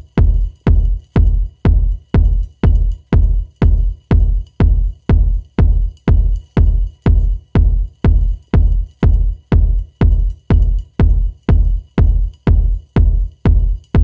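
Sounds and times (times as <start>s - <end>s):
electronic music with kick drum: 0.0s - 14.0s.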